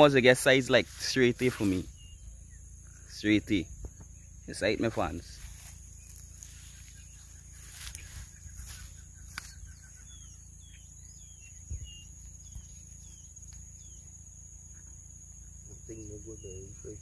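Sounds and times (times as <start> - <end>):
bird chirping: 0.0 - 17.0
high insect drone: 0.0 - 17.0.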